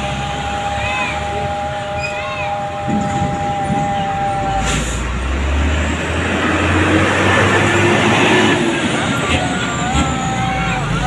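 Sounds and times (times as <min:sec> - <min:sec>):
bus engine rumble passing: 0:00.0 - 0:11.0.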